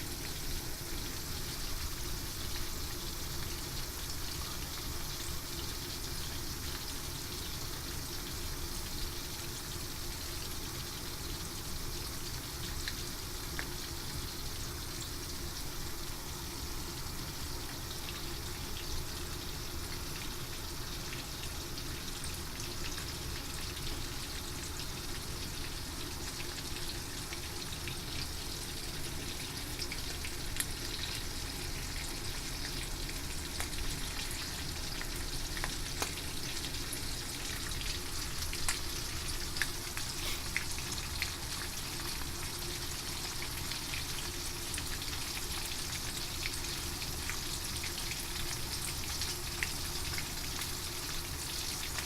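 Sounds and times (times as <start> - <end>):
fish sizzling in hot oil: 0.0 - 52.0.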